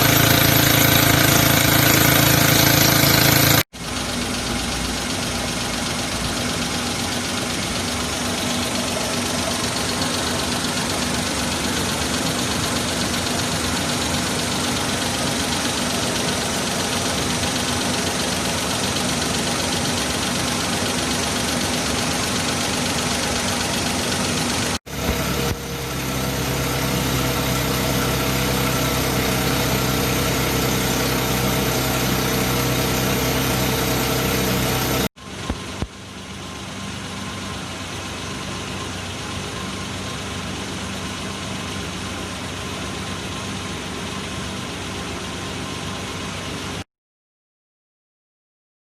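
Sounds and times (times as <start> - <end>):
car engine idling: 0.0 - 46.8.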